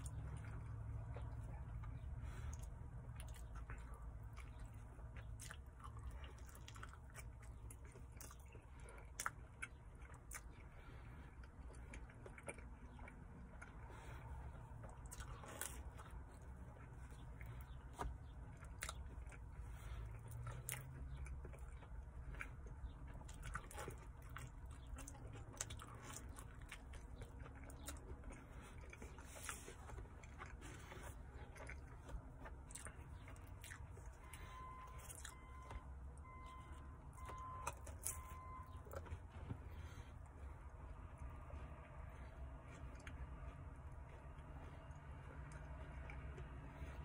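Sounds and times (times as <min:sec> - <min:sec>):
person chewing pizza crust: 0:00.0 - 0:47.0.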